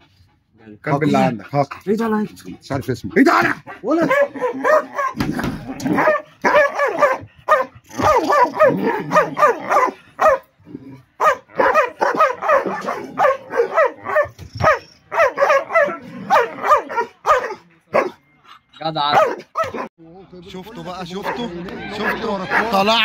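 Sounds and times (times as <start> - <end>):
dogs barking fiercely: 0.9 - 18.3, 19.0 - 19.9, 21.0 - 23.0.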